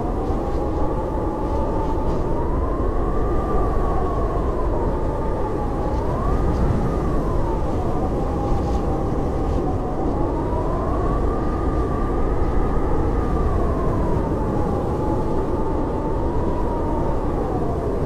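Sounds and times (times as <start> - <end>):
howling blizzard wind: 0.0 - 18.0.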